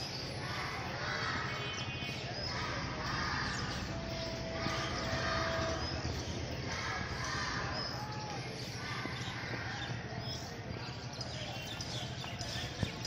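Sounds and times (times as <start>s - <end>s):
bird chirps: 0.0s - 13.0s
crowd chatter: 0.0s - 13.0s.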